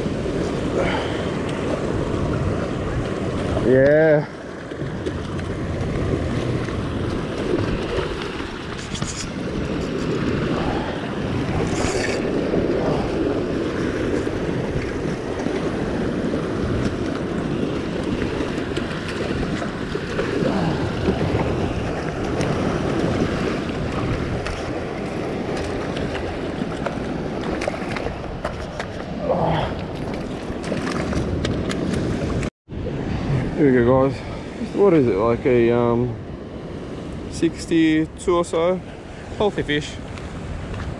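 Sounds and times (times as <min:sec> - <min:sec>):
waves breaking against rock: 0:00.0 - 0:40.9
wind buffeting microphone: 0:00.0 - 0:40.9.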